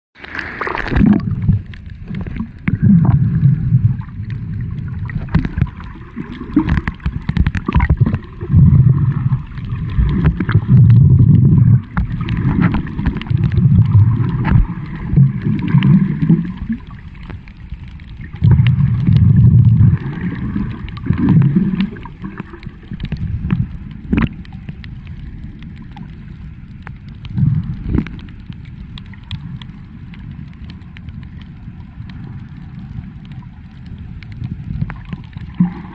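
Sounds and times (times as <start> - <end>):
muffled underwater water gurgling: 0.2 - 35.9.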